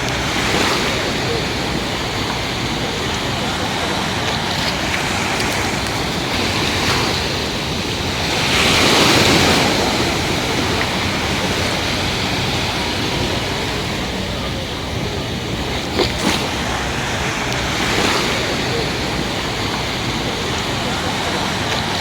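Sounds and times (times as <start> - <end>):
sea waves washing onto shore: 0.0 - 22.0
wind buffeting microphone: 0.0 - 22.0.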